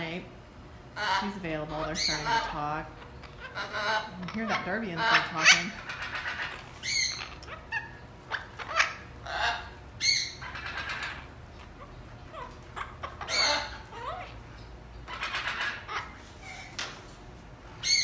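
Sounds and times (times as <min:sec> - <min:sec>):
parrots squawking and chattering: 0:00.1 - 0:17.0, 0:17.6 - 0:18.0
parakeet talking: 0:00.9 - 0:16.2.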